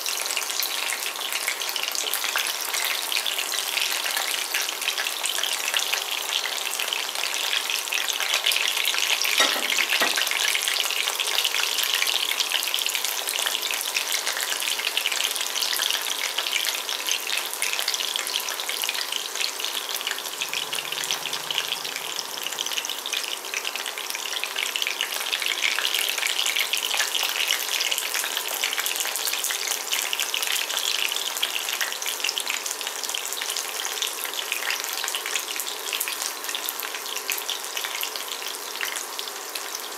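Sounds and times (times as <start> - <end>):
chicken nuggets sizzling in oil: 0.0 - 39.9.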